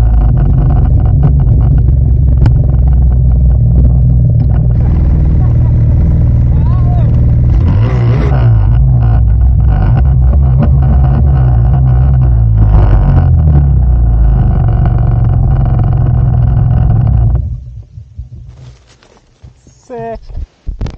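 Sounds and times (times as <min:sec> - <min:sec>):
snowmobile engine idling: 0:00.0 - 0:19.1.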